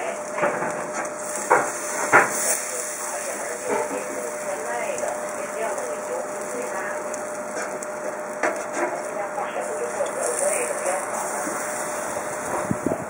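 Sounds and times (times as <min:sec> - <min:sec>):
gas burner hiss: 0:00.0 - 0:13.0
steak sizzling on grill: 0:00.0 - 0:13.0.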